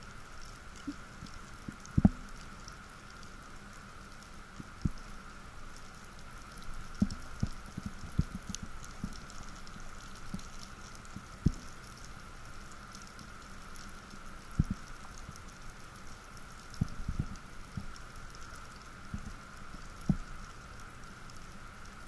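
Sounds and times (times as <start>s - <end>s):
underwater hiss with crackling: 0.0s - 22.0s.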